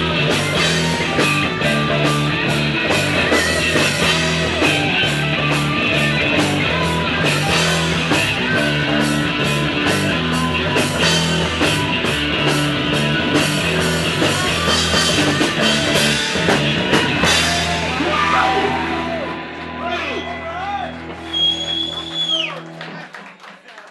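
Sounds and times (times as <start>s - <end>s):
live rock band playing: 0.0s - 23.2s.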